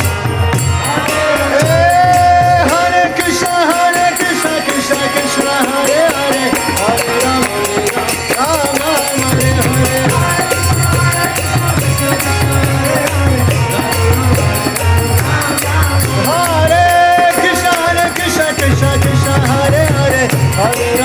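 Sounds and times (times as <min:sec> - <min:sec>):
jingling hand percussion: 0:00.0 - 0:21.0.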